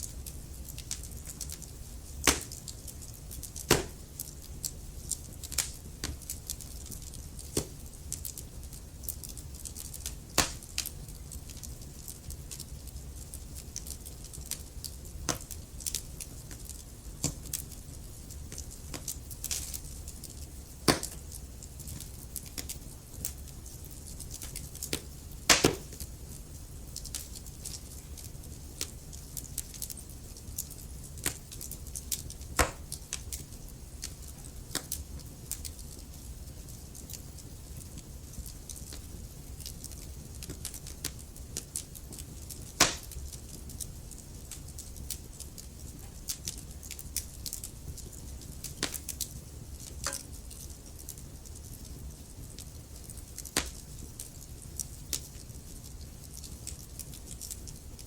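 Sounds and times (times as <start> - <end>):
logs crackling and popping: 0.0 - 58.0
soft rumble of flames: 0.0 - 58.0.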